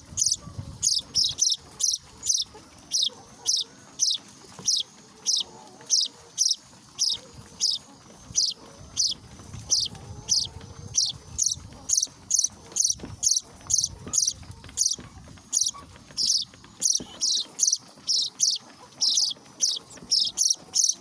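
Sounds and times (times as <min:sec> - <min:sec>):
bird chicks chirping: 0:00.0 - 0:21.0.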